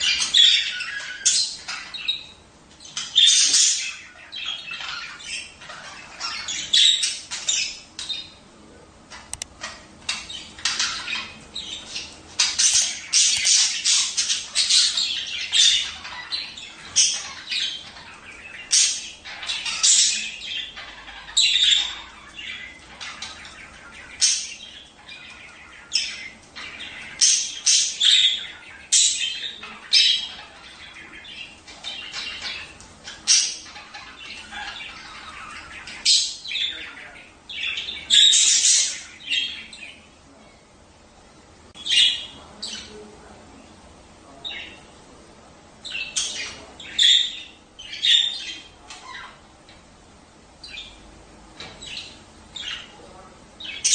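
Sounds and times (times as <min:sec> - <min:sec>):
budgerigars chattering and squawking: 0:00.0 - 0:40.2, 0:41.8 - 0:45.0, 0:45.8 - 0:53.9.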